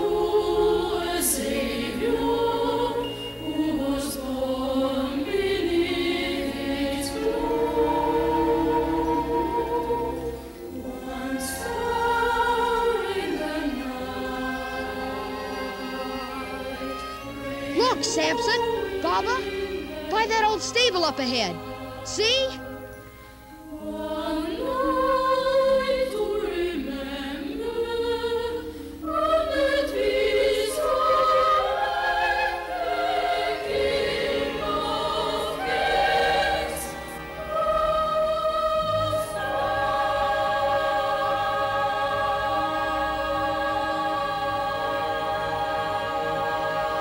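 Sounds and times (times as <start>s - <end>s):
choir singing: 0.0s - 47.0s.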